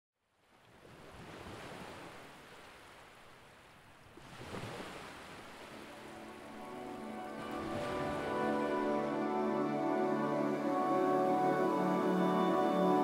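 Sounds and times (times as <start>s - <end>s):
ocean waves washing: 0.8s - 13.0s.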